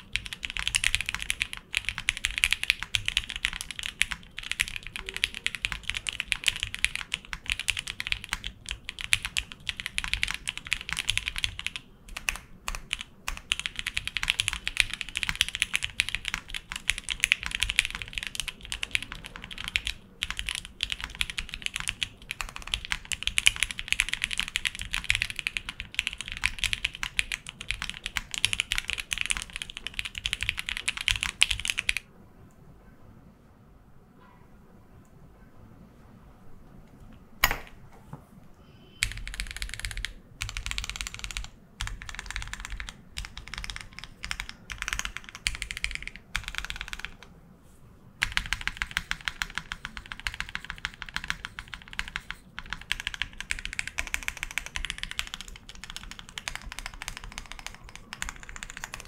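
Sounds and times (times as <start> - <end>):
fast mechanical keyboard typing: 0.0 - 32.1, 39.0 - 47.3, 48.2 - 59.0.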